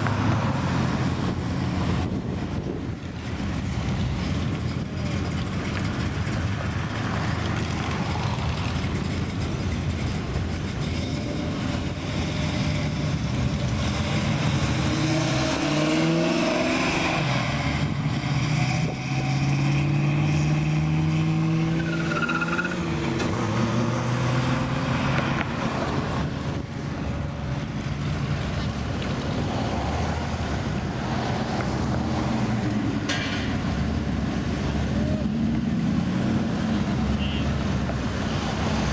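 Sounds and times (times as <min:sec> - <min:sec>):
cars driving slowly past: 0:00.0 - 0:21.7, 0:22.8 - 0:38.9.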